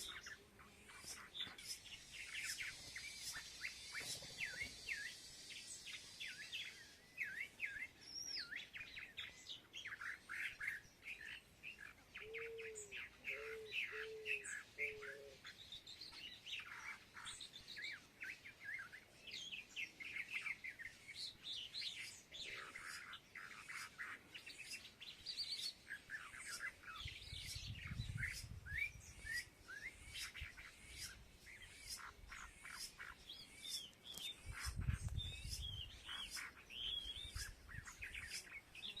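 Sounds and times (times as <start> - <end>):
small birds chirping and twittering: 0.0 - 39.0.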